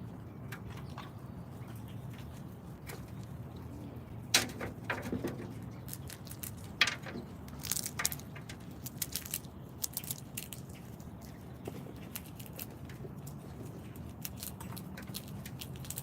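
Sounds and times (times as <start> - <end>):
animals clicking at feeder: 0.0 - 16.0
steady low hum: 0.0 - 16.0.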